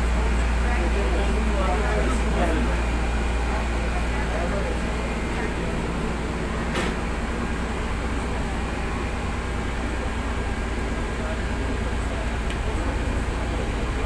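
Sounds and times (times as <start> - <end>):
bus interior rumble: 0.0 - 14.0.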